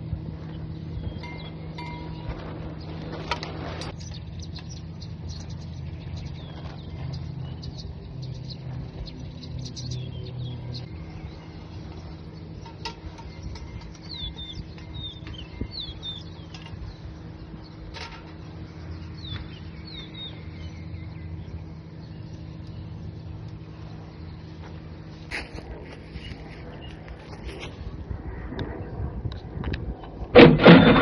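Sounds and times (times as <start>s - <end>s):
low rumble and hum: 0.0s - 31.0s
small birds chirping: 0.2s - 28.0s.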